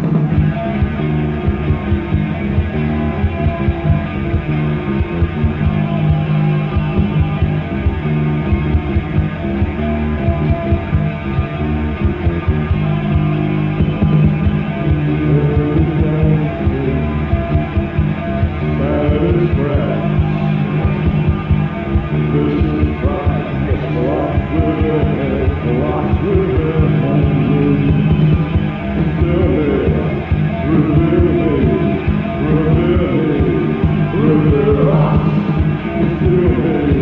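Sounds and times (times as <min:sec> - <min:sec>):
rock band playing: 0:00.0 - 0:37.0.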